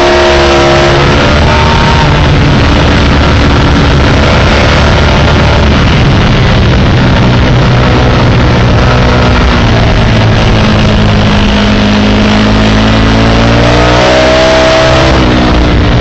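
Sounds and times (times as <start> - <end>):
motorcycle engine at high revs: 0.0 - 16.0
wind noise on microphone: 0.0 - 16.0.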